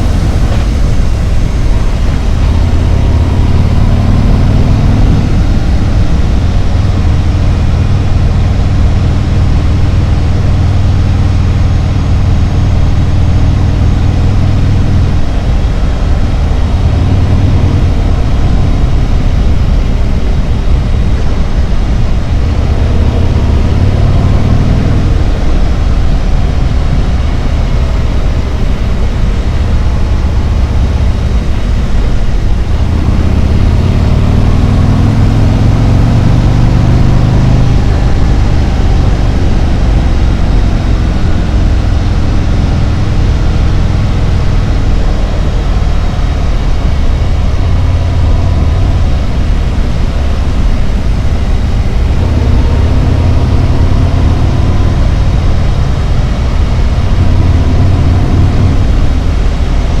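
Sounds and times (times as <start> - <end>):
motorcycle engine revving: 0.0 - 60.0
wind rush of riding: 0.0 - 60.0.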